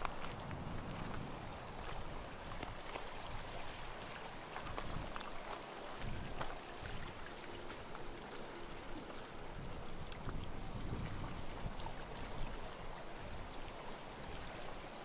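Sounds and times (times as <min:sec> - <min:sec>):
water lapping and splashing: 0:00.0 - 0:15.0.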